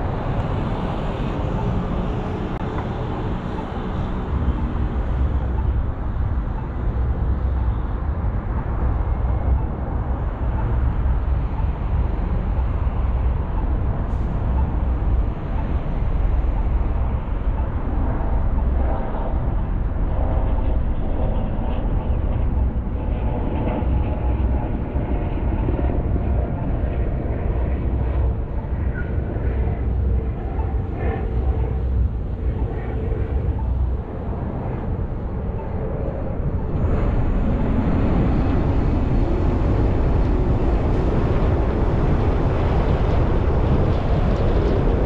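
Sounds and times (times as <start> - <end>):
faint engine hum: 0.0 - 45.0
road and tyre rumble: 0.0 - 45.0
traffic noise: 0.0 - 45.0.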